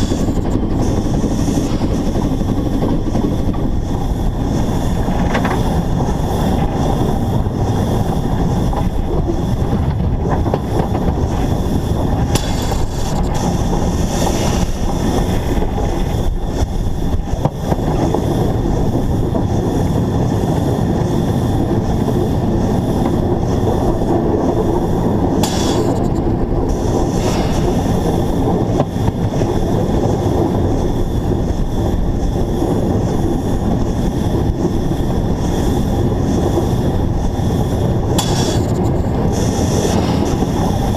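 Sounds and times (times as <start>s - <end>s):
steam train rumbling: 0.0s - 40.9s.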